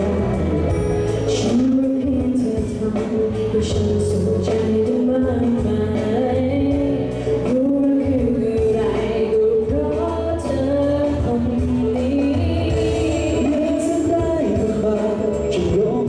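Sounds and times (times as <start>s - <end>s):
pop song with live band: 0.0s - 16.0s
woman singing: 0.0s - 16.0s.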